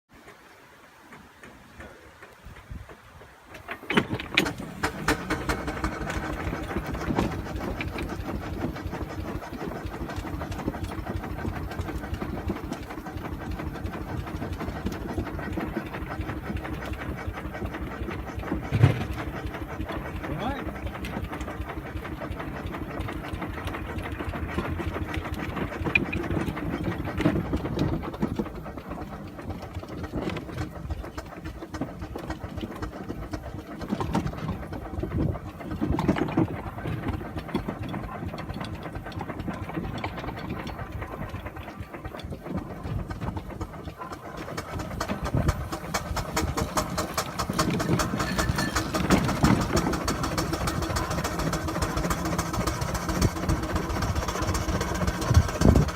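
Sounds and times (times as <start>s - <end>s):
steam engine clattering: 0.1s - 55.9s.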